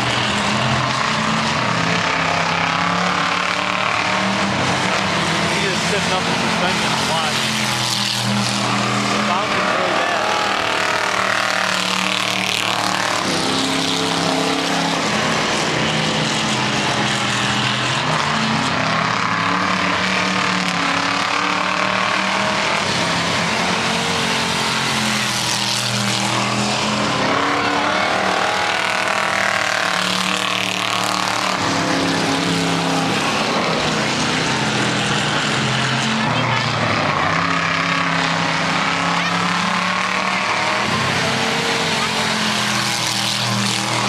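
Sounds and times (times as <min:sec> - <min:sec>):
race car engines: 0:00.0 - 0:44.0.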